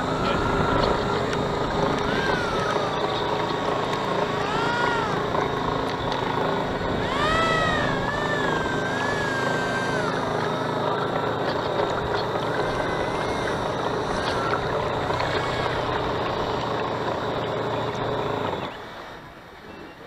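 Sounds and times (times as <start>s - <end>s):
model boat motor whine: 0.0s - 20.0s.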